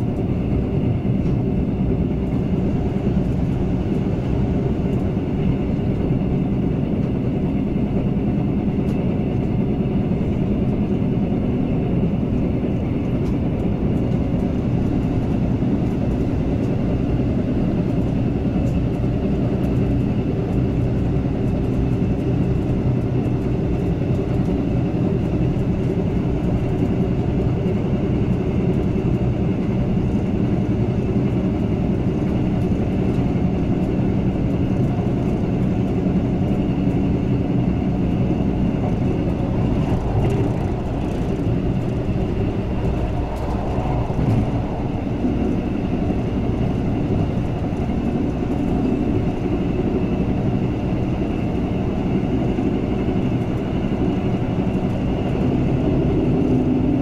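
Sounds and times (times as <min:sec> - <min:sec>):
constant hum: 0:00.0 - 0:57.0
train wheels rumbling on rails: 0:00.0 - 0:57.0.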